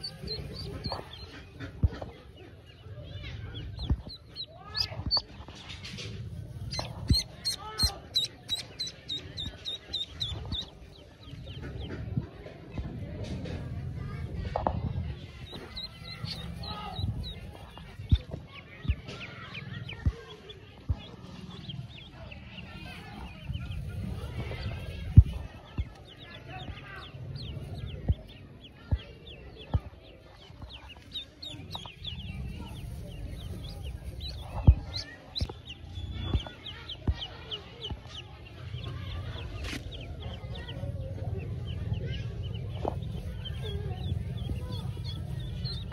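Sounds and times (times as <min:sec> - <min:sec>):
duckling peeping: 0:00.0 - 0:12.8, 0:15.2 - 0:45.9.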